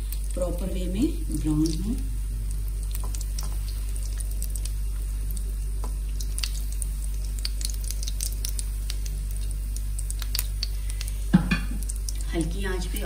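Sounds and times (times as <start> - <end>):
food deep-frying in oil: 0.0 - 13.0
low steady hum: 0.0 - 13.0.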